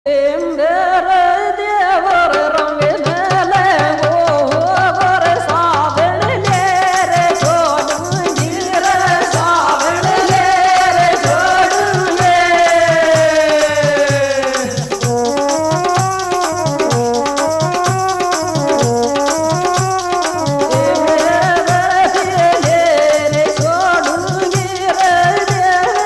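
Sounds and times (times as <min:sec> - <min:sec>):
rattling percussion: 0:02.2 - 0:26.0
steady drum beat: 0:02.3 - 0:26.0
quick instrumental melody: 0:02.4 - 0:26.0.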